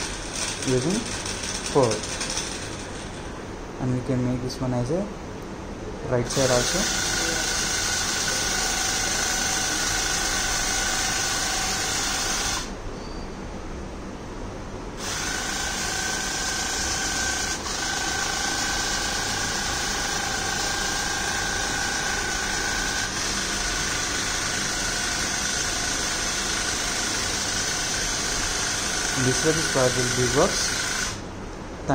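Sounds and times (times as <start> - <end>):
small electric motors whining: 0.0 - 3.3, 6.3 - 12.8, 15.0 - 31.2.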